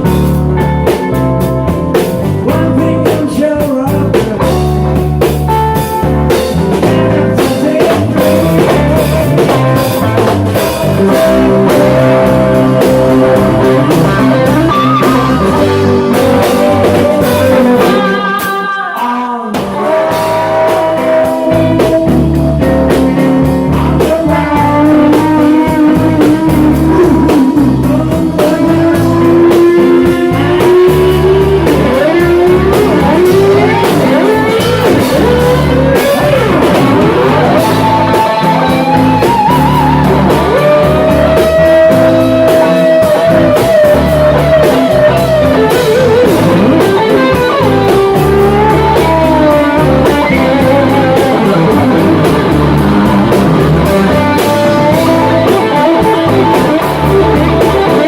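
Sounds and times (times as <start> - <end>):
bass guitar: 0.0 - 58.0
drum kit: 0.0 - 58.0
electric lead guitar: 0.0 - 58.0.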